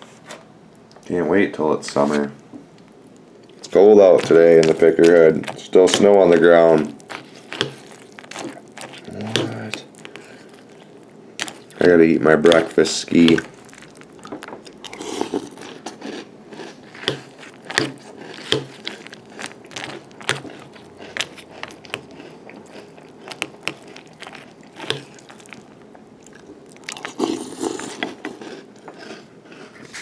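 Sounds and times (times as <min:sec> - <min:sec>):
crunchy chewing: 0:02.8 - 0:30.0.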